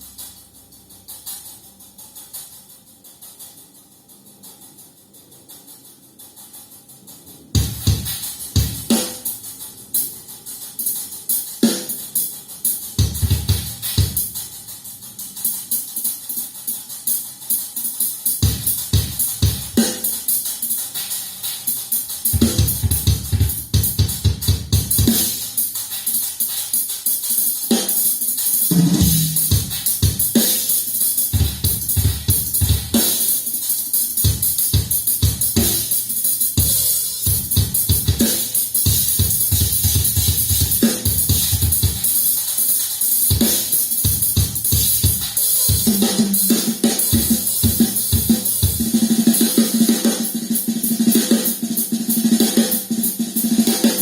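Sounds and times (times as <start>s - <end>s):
cymbals: 0.0s - 54.0s.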